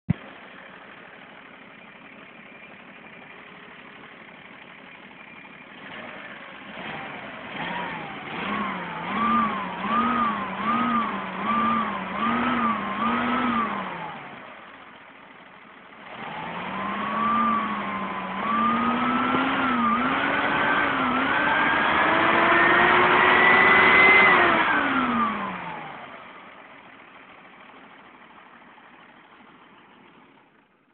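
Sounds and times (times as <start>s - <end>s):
pickup engine idling and revving: 0.1s - 30.9s.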